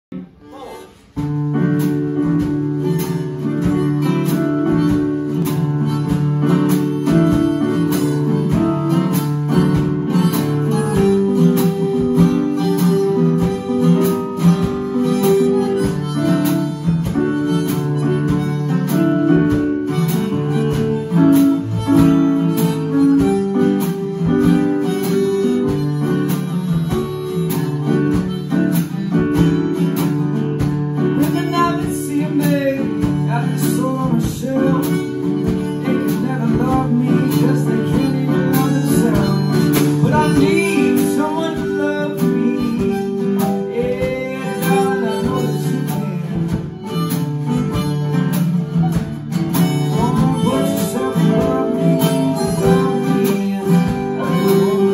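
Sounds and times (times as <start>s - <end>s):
acoustic guitar: 0.0s - 54.9s
drum kit: 0.1s - 54.9s
harmonica lead: 0.1s - 54.9s
electronic keyboard: 1.0s - 54.9s.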